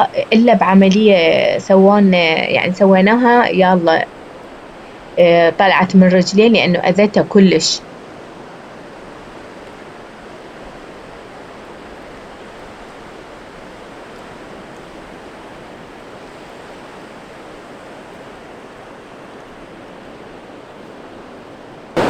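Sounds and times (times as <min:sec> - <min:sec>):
sea surf washing on shore: 0:00.0 - 0:22.0.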